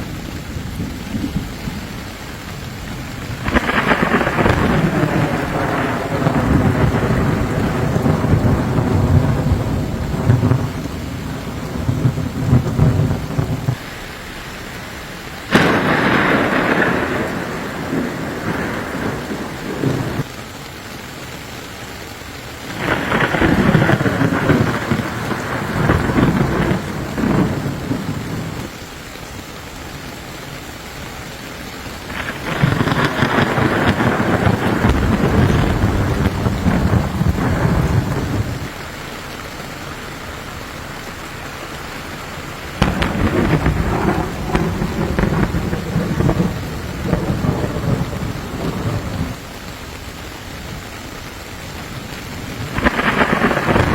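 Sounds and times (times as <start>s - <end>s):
thunder rolling: 0.0s - 20.3s, 22.7s - 28.8s, 31.9s - 50.9s, 51.9s - 53.9s
steady rain: 0.0s - 53.9s.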